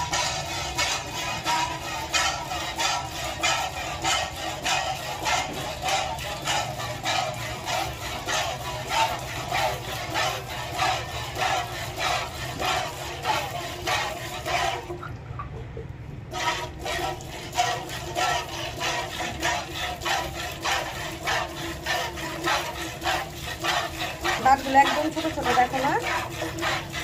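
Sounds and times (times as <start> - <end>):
milk squirting into steel bucket: 0.0 - 15.1, 16.3 - 27.0.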